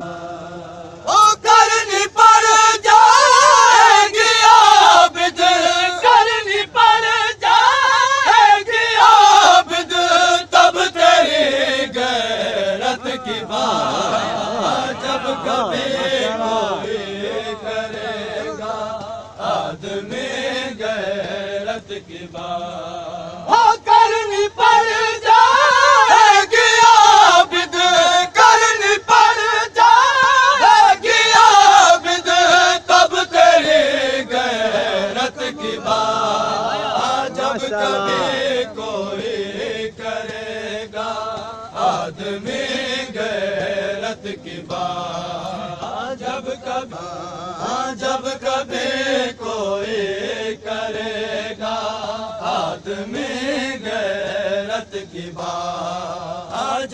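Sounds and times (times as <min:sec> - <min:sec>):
man chanting a lament: 0:00.0 - 0:56.9.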